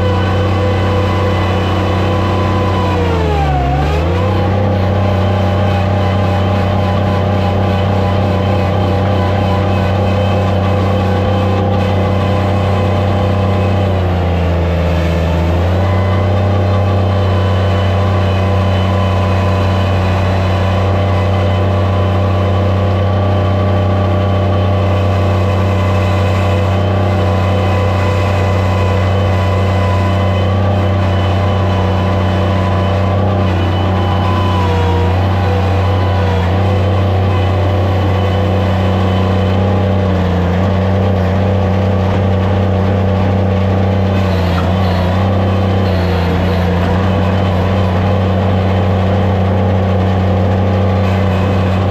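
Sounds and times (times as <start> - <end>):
skid steer loader engine running: 0.0 - 51.9.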